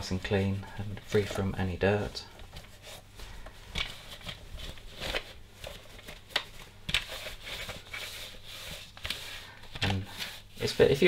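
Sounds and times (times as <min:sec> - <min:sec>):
cloth rubbing on plastic: 0:00.0 - 0:11.0.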